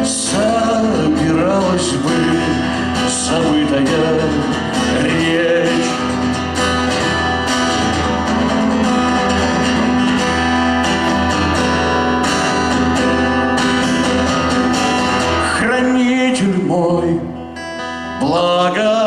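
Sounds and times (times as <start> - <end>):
strummed guitar with accompaniment: 0.0 - 19.0.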